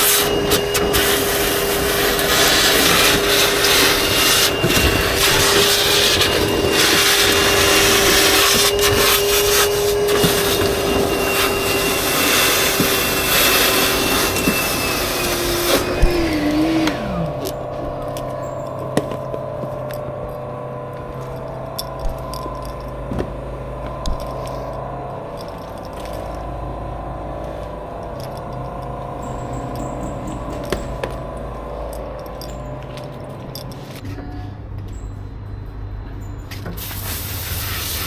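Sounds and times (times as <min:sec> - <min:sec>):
electric motor whine: 0:00.0 - 0:33.7.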